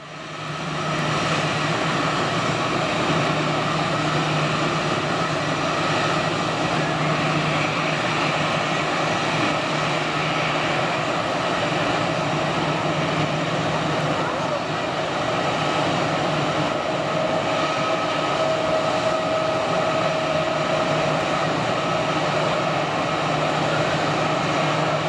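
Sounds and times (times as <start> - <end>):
jet engines at takeoff power: 0.0 - 25.0.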